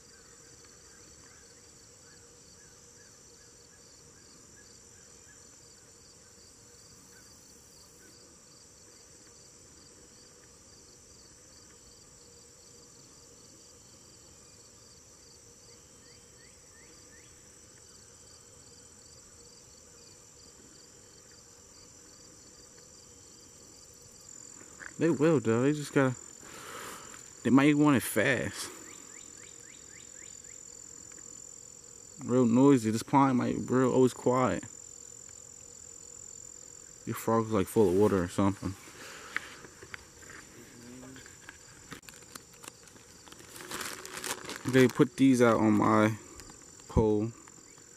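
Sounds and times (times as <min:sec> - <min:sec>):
crickets chirping: 0:00.0 - 0:47.9
high-pitched insect trill: 0:00.0 - 0:47.9.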